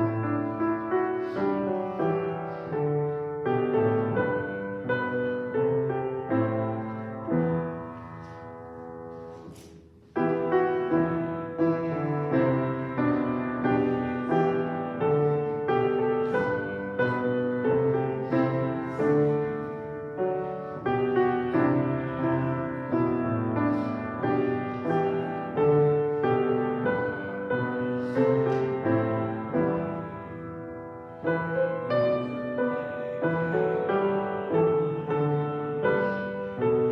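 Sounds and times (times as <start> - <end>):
piano playing hymn chords: 0.0 - 36.9.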